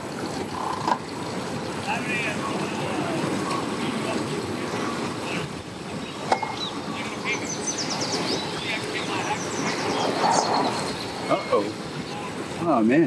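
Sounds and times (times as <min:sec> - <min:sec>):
birds chirping: 0:00.0 - 0:13.0
boat engine idling: 0:00.0 - 0:13.0.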